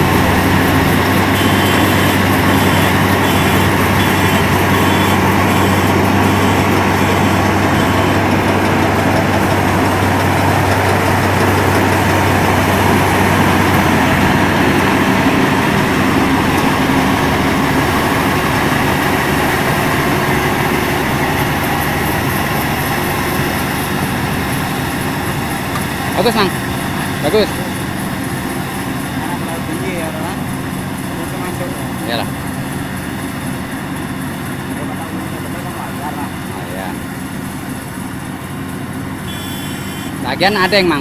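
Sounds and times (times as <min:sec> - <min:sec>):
combine harvester droning: 0:00.0 - 0:41.0.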